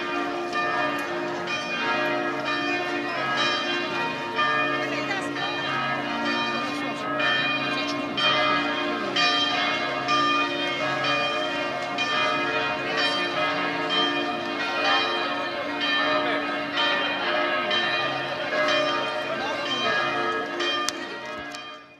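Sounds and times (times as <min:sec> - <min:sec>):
church bells ringing: 0:00.0 - 0:21.9.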